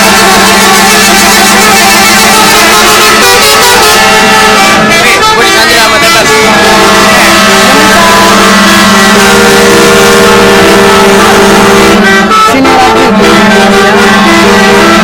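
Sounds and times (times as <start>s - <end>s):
musical bus horns playing tune: 0.0s - 15.0s.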